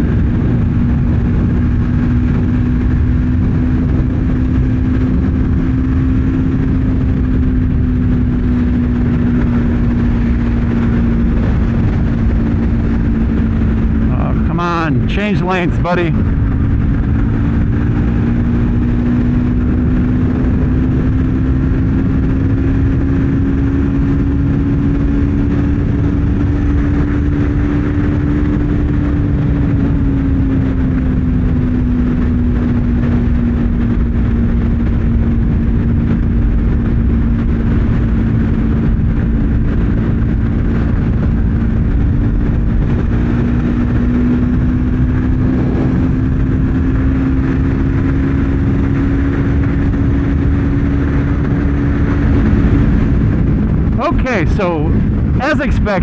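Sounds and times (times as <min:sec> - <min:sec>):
motorcycle engine running hard: 0:00.0 - 0:56.0
wind rush on microphone: 0:00.0 - 0:56.0.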